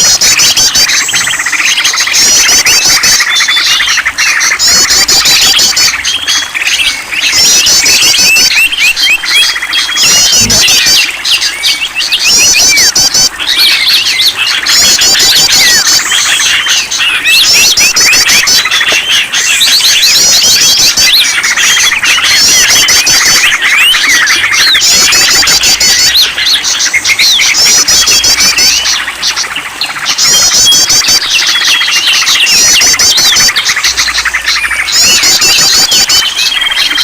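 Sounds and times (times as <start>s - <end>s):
small birds chirping and trilling: 0.0s - 37.0s.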